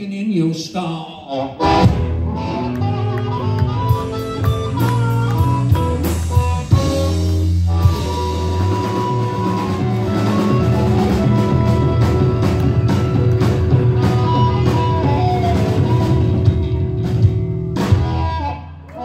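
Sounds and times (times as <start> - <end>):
blues-rock band playing: 1.3 - 19.0.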